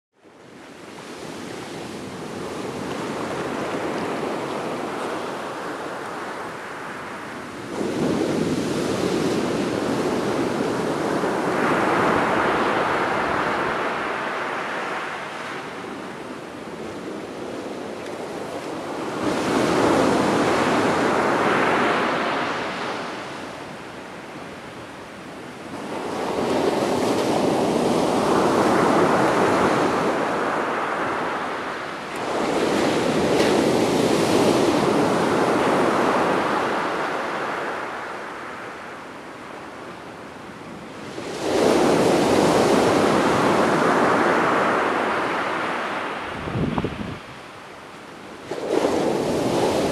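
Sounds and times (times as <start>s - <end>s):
surf washing up a beach: 0.2s - 49.9s.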